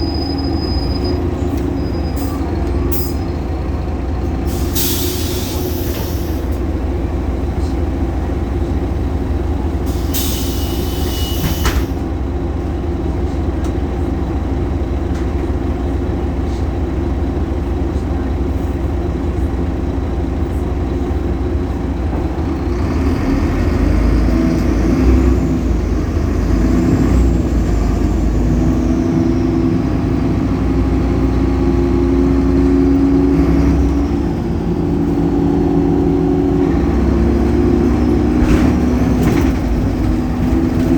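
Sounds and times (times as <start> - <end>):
bus diesel engine running: 0.0 - 40.9
engine belt noise: 1.2 - 40.9.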